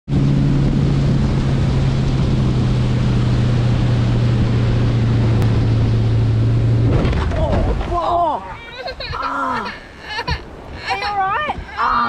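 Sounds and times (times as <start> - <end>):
boat engine running: 0.1 - 12.0
rushing wind and water: 0.1 - 12.0.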